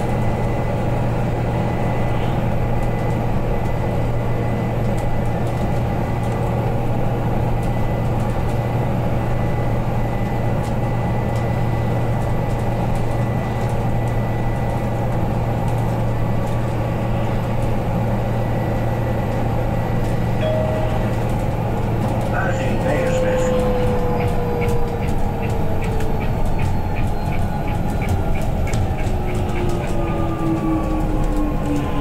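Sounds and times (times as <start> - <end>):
low hum of bus: 0.0 - 32.0
road and tyre rumble: 0.0 - 32.0.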